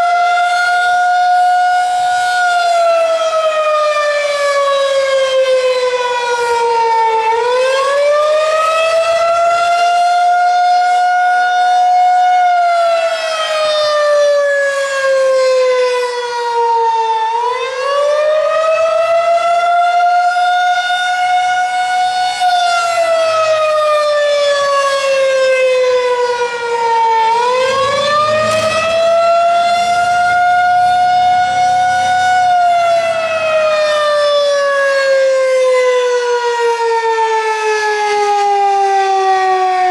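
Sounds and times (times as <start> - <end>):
warning siren rising and falling: 0.0 - 39.9.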